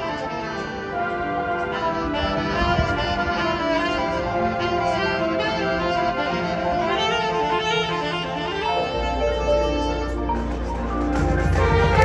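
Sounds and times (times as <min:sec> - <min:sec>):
marching band playing: 0:00.0 - 0:12.0.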